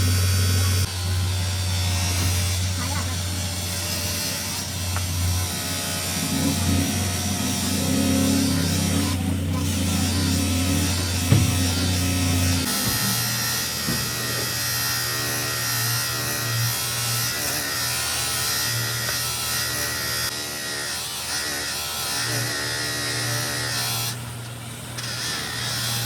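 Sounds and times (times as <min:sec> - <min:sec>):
electric motor humming: 0:00.0 - 0:26.0.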